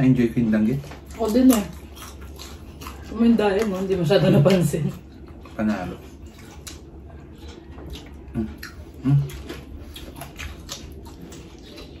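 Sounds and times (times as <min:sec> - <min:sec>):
wet chewing mouth sounds: 0:00.8 - 0:12.0.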